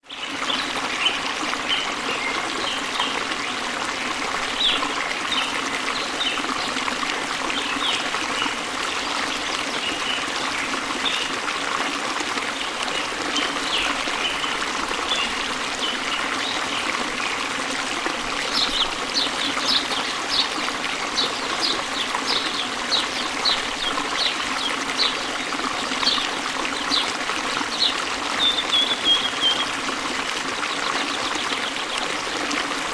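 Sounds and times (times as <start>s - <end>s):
running water: 0.0s - 32.9s.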